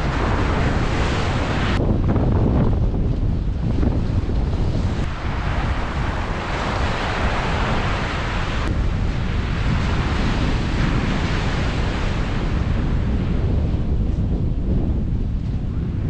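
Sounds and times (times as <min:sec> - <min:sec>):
ocean surf washing up beach: 0:00.0 - 0:14.1
wind rumble on microphone: 0:00.0 - 0:16.0.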